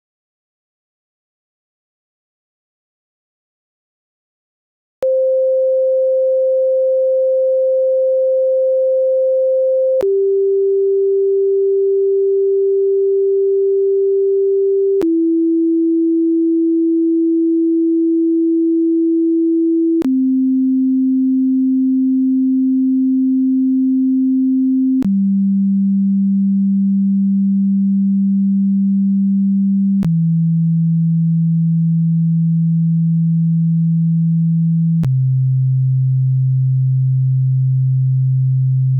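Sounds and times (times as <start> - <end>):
sine-wave test tone: 5.0 - 38.9.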